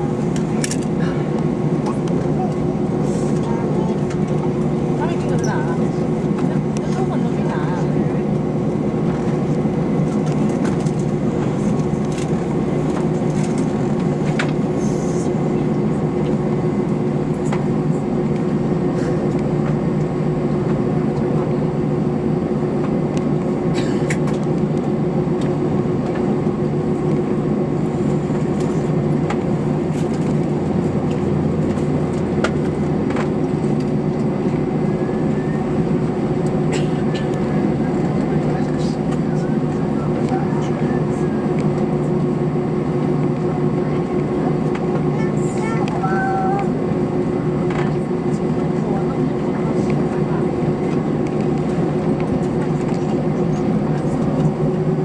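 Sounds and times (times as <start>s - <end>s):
parked airliner droning: 0.0s - 55.0s.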